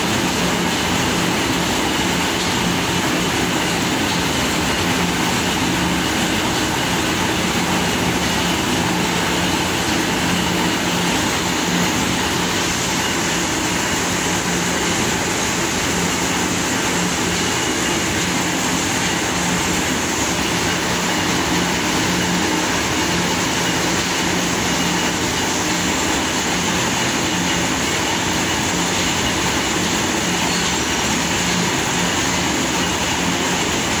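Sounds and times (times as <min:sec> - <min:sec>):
mill machinery din: 0:00.0 - 0:34.0.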